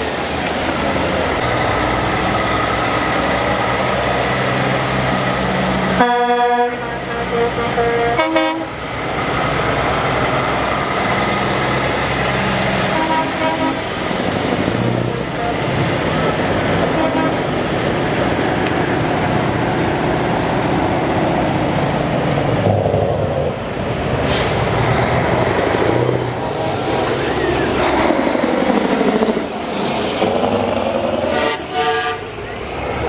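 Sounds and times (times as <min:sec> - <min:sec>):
diesel trucks driving past: 0:00.0 - 0:33.0.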